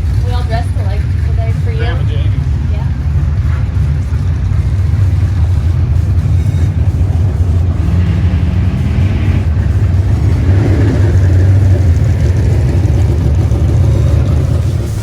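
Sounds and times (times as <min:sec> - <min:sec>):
race car engines rumbling: 0:00.0 - 0:15.0.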